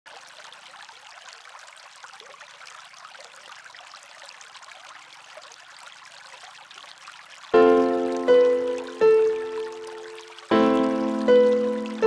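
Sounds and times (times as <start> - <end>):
running water trickling: 0.1 - 12.0.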